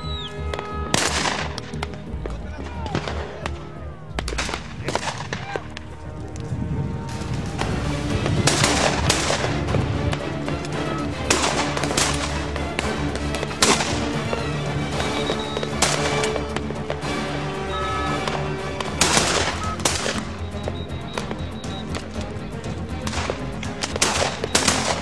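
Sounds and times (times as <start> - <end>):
background music: 0.0 - 25.0
shotgun shots: 0.5 - 2.0, 2.7 - 5.8, 7.1 - 17.3, 18.0 - 22.2, 23.0 - 25.0.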